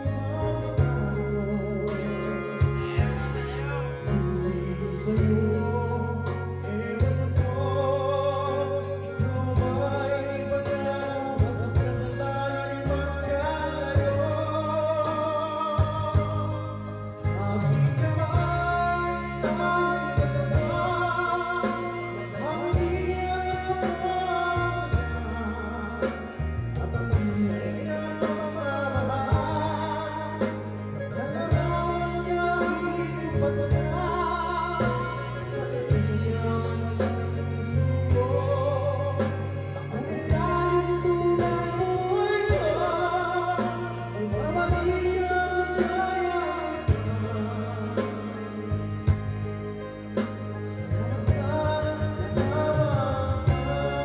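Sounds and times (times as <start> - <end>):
backing music with bass line: 0.0 - 54.0
man singing into microphone: 0.0 - 54.0.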